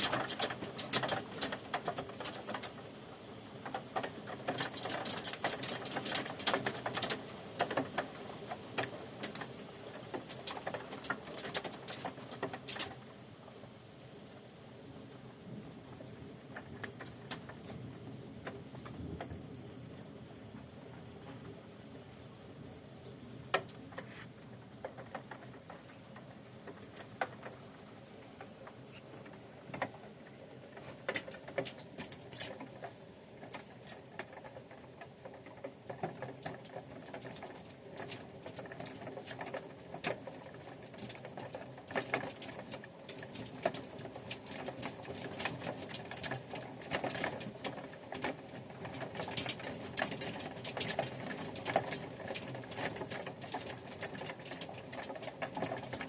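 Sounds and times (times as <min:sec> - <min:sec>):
hail pattering on window: 0:00.0 - 0:56.0.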